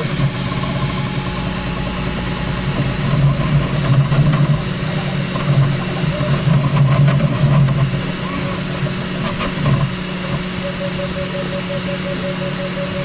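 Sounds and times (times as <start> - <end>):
printer motors and fans humming: 0.0 - 13.0.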